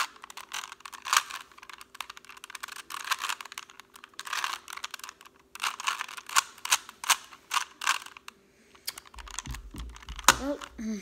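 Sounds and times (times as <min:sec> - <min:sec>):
puzzle cube plastic clicks: 0:00.0 - 0:10.8.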